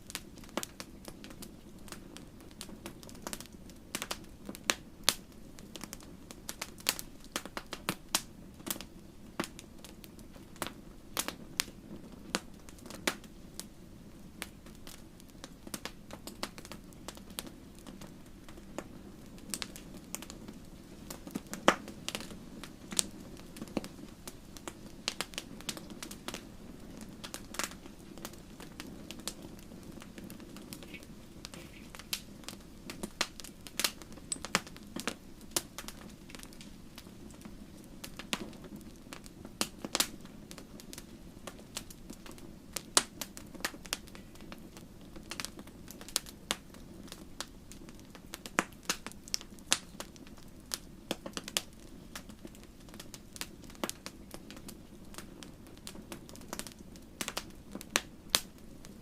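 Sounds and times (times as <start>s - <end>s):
flames rumbling: 0.0s - 59.0s
wood fire crackling and popping: 0.0s - 59.0s.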